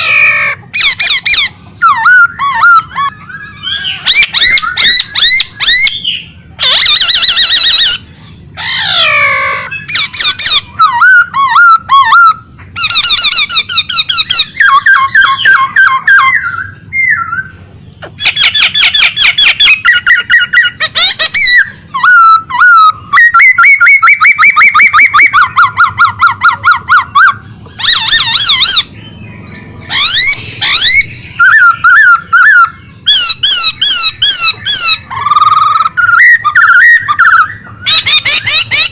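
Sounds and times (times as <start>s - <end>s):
songbird singing trills: 0.0s - 38.9s.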